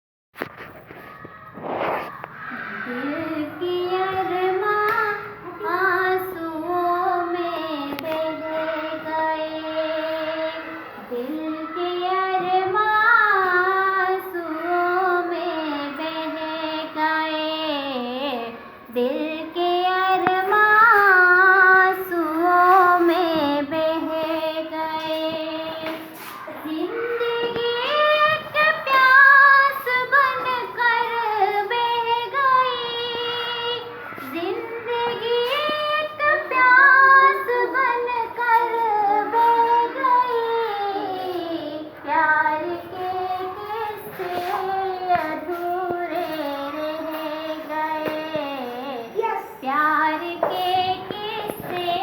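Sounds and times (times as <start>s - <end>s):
woman singing unaccompanied: 2.7s - 52.0s.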